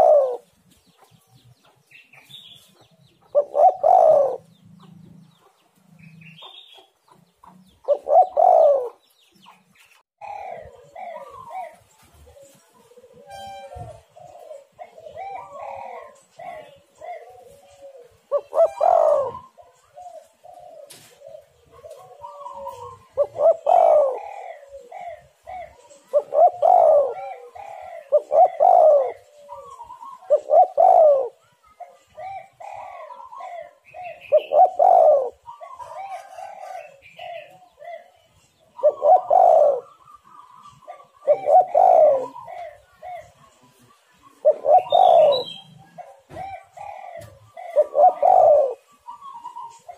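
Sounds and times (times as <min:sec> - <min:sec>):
doves cooing: 0:00.0 - 0:49.9.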